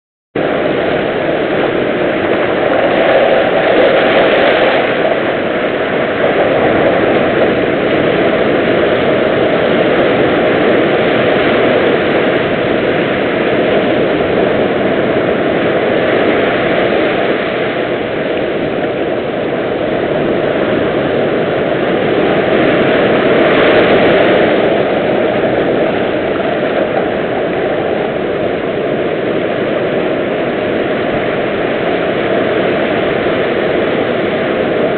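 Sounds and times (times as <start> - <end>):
surf breaking over boulders: 0.4 - 34.9.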